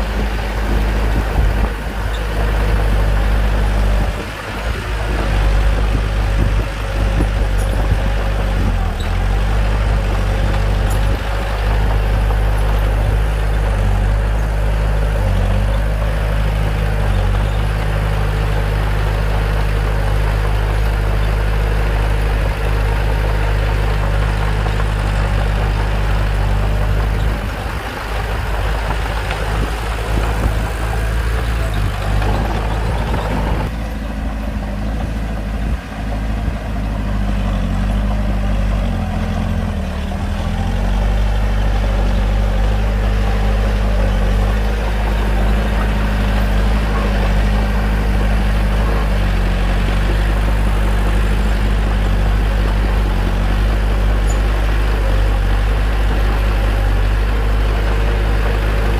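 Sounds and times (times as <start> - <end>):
diesel engine droning: 0.0 - 58.9.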